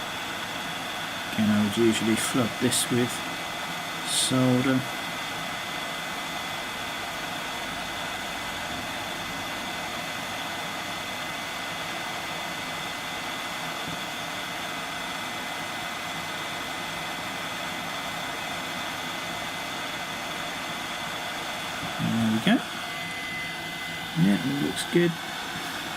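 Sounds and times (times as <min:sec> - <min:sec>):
hot air station blowing: 0:00.0 - 0:25.9.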